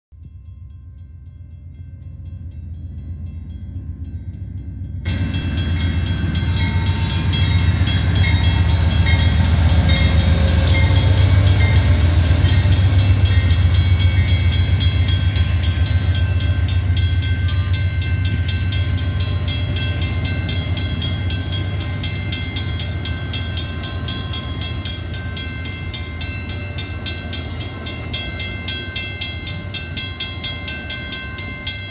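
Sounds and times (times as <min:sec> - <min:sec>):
crossing warning bell ringing: 0:00.2 - 0:31.9
train cars rumbling past: 0:00.4 - 0:31.9.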